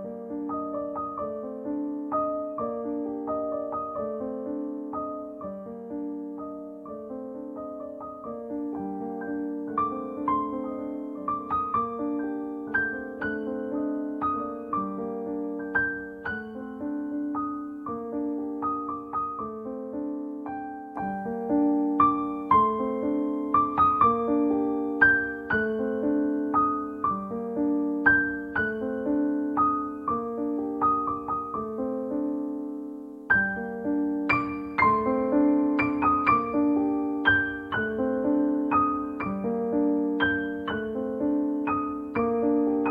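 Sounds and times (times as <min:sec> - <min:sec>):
instrumental piano music: 0:00.0 - 0:42.9.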